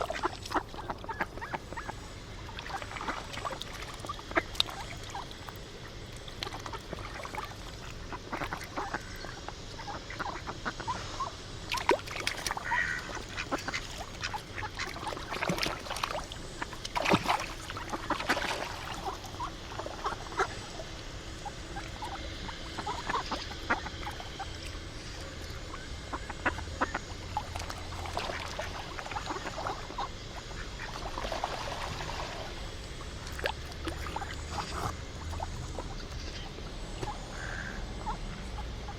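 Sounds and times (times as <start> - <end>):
ducks quacking: 0.0 - 11.4, 12.5 - 32.6, 33.8 - 38.9
steady background noise: 0.0 - 38.9.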